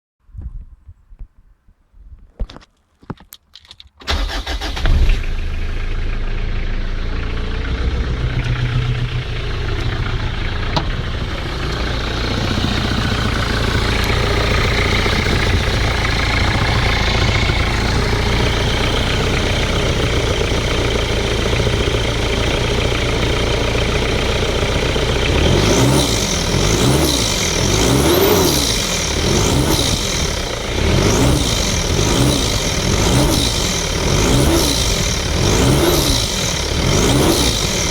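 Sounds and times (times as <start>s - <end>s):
diesel engine idling and revving: 4.1s - 37.9s.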